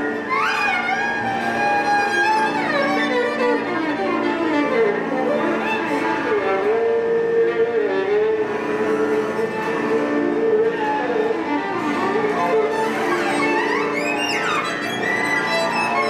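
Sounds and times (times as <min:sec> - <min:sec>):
violin bowed sliding notes: 0:00.0 - 0:16.0.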